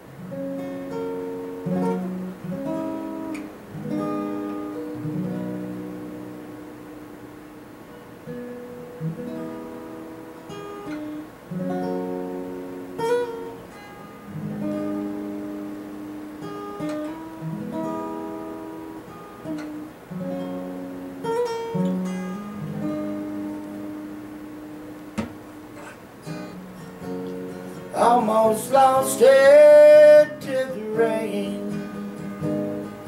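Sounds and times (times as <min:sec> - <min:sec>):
acoustic guitar chords: 0:00.0 - 0:33.0.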